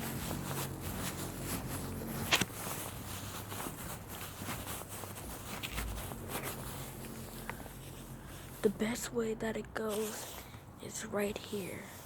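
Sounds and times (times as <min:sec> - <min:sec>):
footsteps walking: 0:00.0 - 0:11.9
low background hiss: 0:00.0 - 0:12.0.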